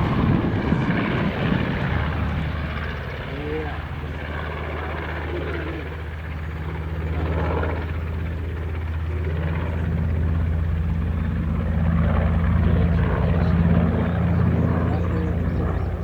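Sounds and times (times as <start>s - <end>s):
propeller plane engines in flight: 0.0s - 16.0s.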